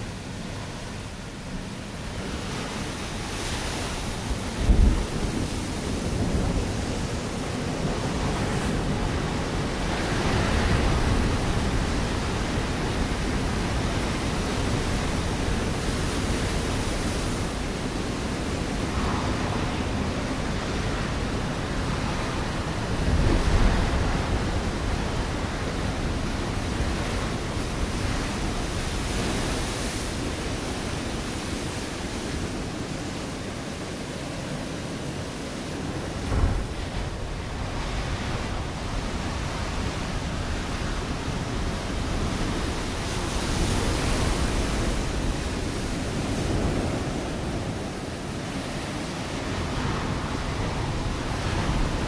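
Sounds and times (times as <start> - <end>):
waves breaking on rocks: 2.2 - 52.0.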